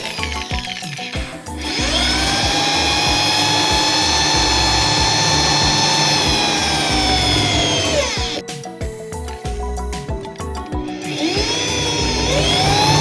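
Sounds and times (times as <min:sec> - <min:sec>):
power tool motor whining: 0:00.0 - 0:08.4, 0:10.8 - 0:13.0
background music with beat: 0:00.0 - 0:13.0.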